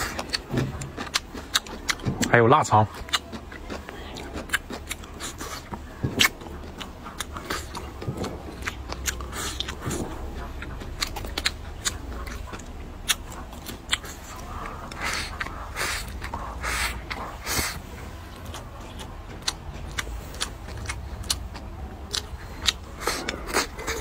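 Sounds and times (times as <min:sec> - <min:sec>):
man chewing meat: 0:00.0 - 0:24.0.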